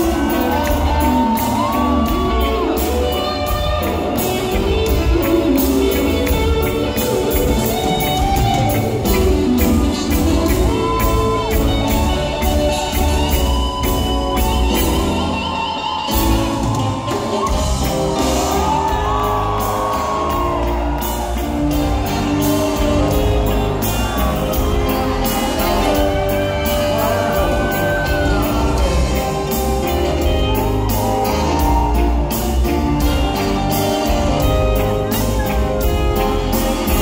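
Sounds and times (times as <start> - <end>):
audience shouting and whooping: 0.0 - 37.0
live reggae band playing: 0.0 - 37.0.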